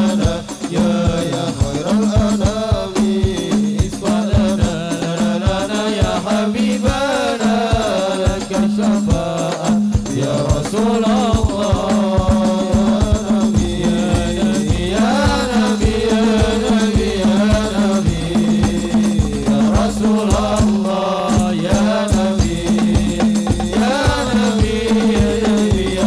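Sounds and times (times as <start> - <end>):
deeper drum beats: 0.0 - 26.0
hand-beaten frame drums: 0.0 - 26.0
male singers chanting: 0.0 - 26.0.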